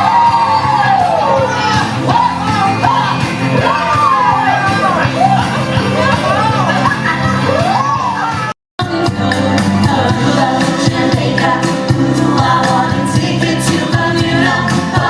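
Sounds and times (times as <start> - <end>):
live stage show music: 0.0 - 15.0.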